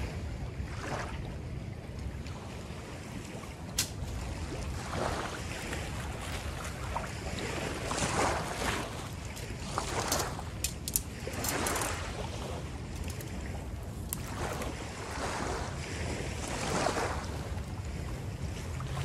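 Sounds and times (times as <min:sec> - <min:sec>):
wind noise on microphone: 0:00.0 - 0:19.0
water sloshing and splashing: 0:00.7 - 0:19.0.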